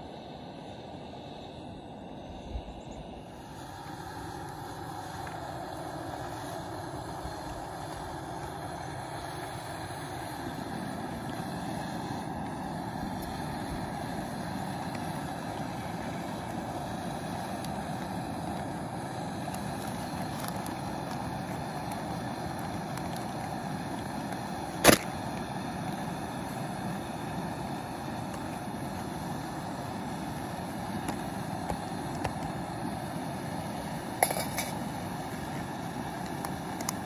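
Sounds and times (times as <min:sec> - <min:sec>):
gas camp stove burning: 0:00.0 - 0:37.0.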